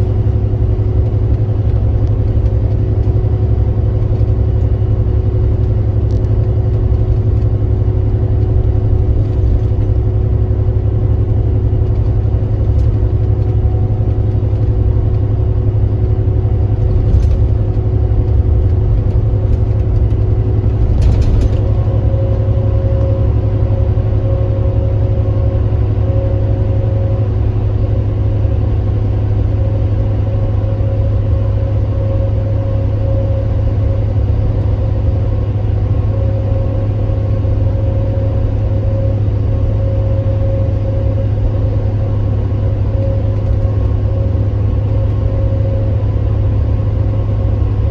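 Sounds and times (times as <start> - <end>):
coach engine droning: 0.0 - 47.9.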